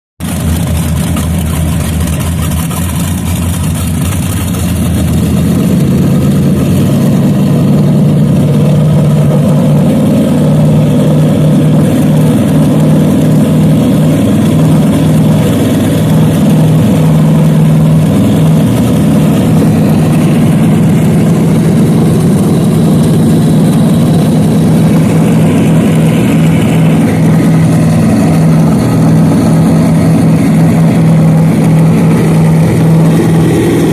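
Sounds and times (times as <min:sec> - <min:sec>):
boat engine running: 0:00.2 - 0:33.9.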